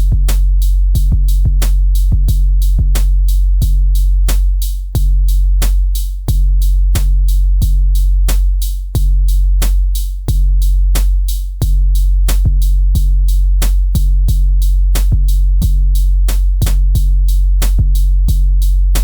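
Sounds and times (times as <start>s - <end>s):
deep bass drum notes: 0.0s - 19.0s
sharp hi-hat clicks: 0.0s - 19.0s.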